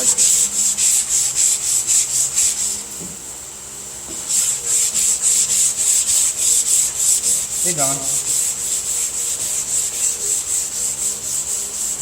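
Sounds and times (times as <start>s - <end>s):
sandpaper rasping on panel: 0.0s - 2.8s, 4.1s - 12.0s.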